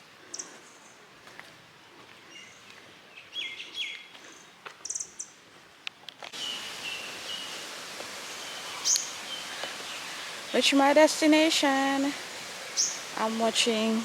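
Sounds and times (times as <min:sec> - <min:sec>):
background noise: 0:00.0 - 0:14.0
birds chirping: 0:00.1 - 0:01.2, 0:01.8 - 0:05.4, 0:06.3 - 0:14.0.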